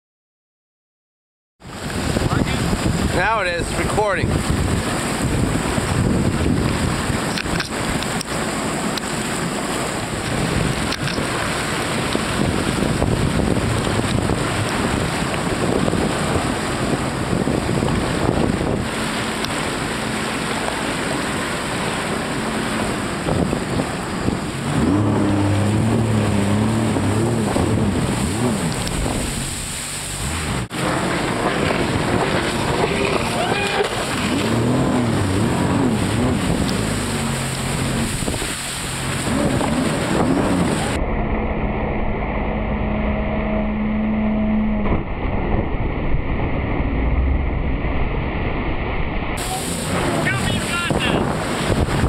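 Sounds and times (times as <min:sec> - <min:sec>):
jet ski engines running: 0:01.6 - 0:52.0
water splashing: 0:01.6 - 0:52.0
wind noise on microphone: 0:01.6 - 0:52.0.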